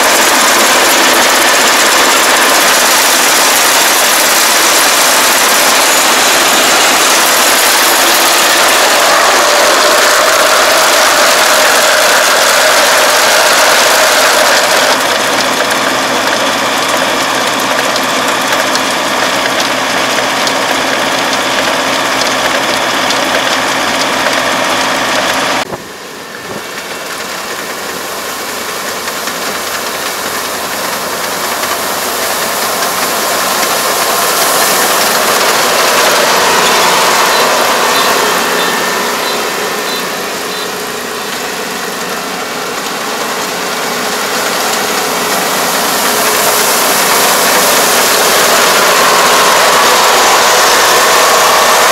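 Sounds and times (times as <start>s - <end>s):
combine harvester diesel engine: 0.0s - 51.9s.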